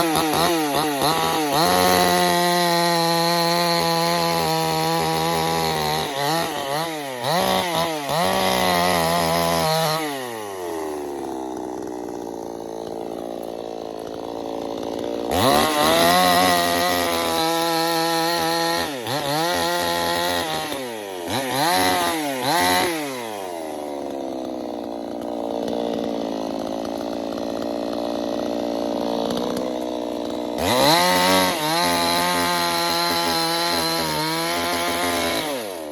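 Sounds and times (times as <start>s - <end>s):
chainsaw engine revving: 0.0s - 35.9s.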